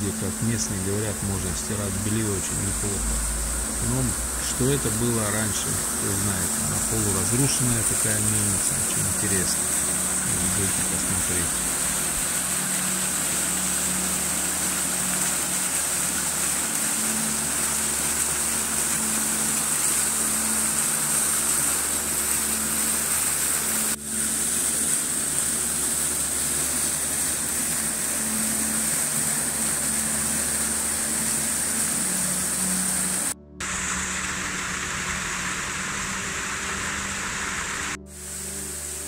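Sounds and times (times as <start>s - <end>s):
water rushing and splashing: 0.0s - 39.0s.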